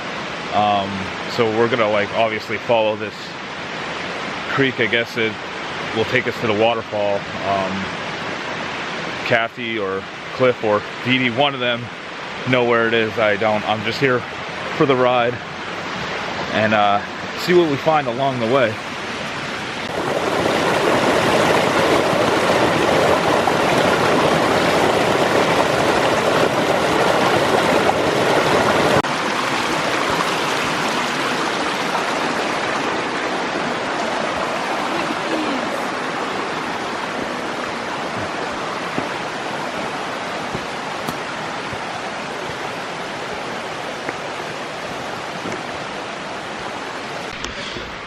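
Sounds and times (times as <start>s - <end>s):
creek rushing and gurgling: 0.0s - 48.0s.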